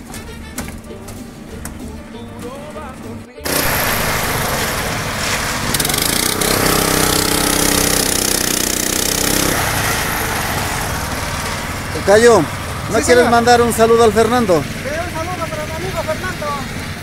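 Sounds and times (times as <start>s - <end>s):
winch engine running: 0.0s - 17.0s.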